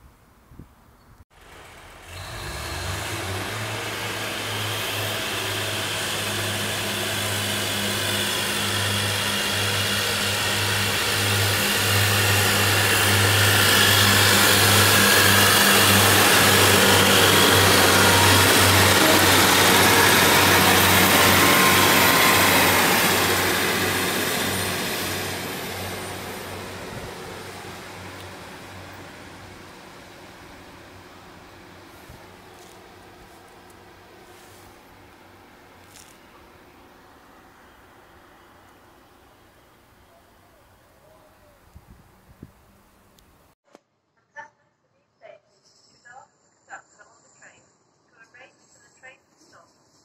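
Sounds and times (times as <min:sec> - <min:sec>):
diesel train passing: 0:01.3 - 0:43.6.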